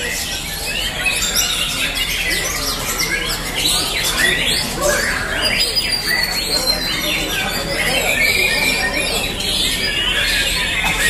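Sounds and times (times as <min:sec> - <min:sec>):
birds singing rapid high whistles: 0:00.0 - 0:11.0.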